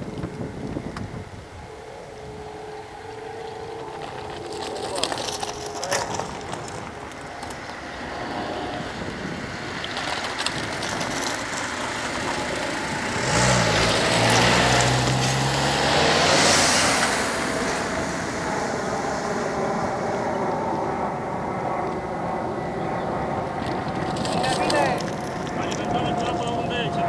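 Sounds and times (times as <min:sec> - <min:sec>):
cars driving past: 0:01.2 - 0:27.0.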